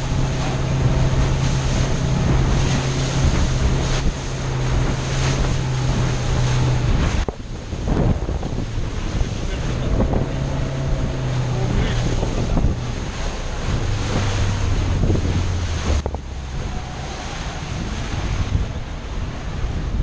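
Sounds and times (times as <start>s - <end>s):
boat engine humming: 0.0s - 20.0s
water noise: 0.0s - 20.0s
wind buffeting microphone: 0.0s - 20.0s.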